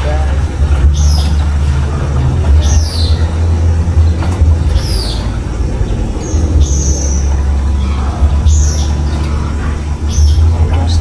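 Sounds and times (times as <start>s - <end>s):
steady low rumble: 0.0s - 11.0s
bird chirping: 0.6s - 11.0s.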